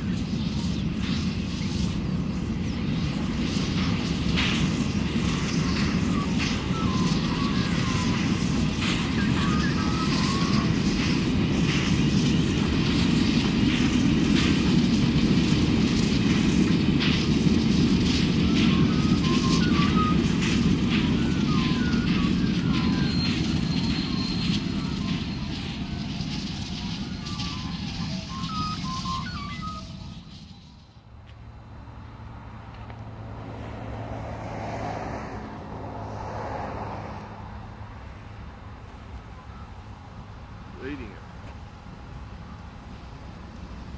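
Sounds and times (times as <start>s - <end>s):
steam locomotive exhaust beats: 0.0s - 43.9s
steam locomotive rumble: 0.0s - 43.9s.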